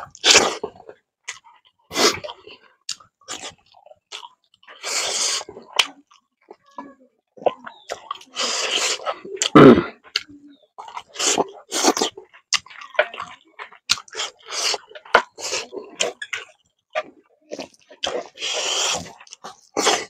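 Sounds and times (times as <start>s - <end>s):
man chewing wetly: 0.0s - 20.0s.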